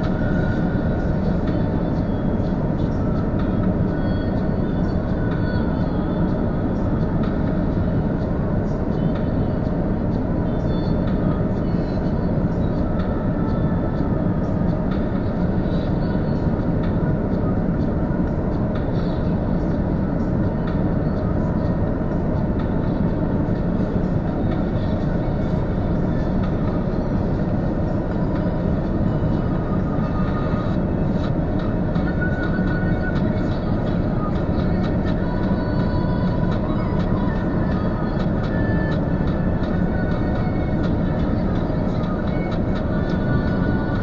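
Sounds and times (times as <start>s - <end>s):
car cabin engine rumble: 0.0s - 44.0s.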